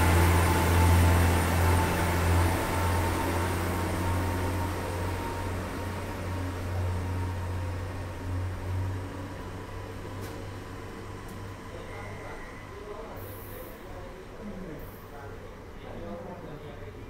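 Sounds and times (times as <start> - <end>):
diesel engine droning: 0.0 - 13.7.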